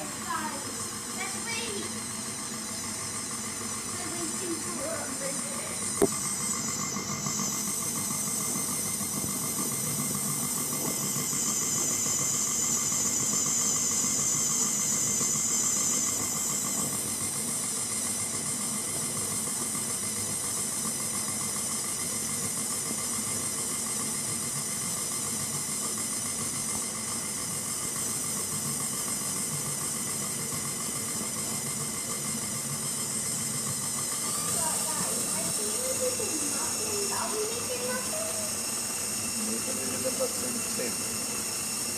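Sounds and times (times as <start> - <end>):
electric mixer whining: 0.0 - 41.9.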